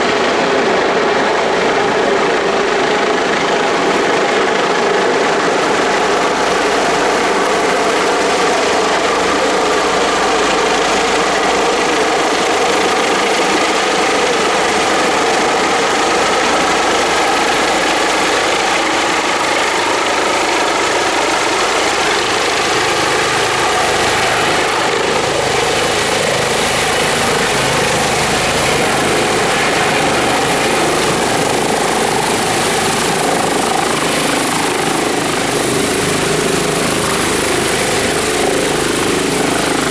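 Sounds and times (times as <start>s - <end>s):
helicopter rotor and engine noise: 0.0s - 39.9s
high-pitched turbine whine: 0.0s - 39.9s.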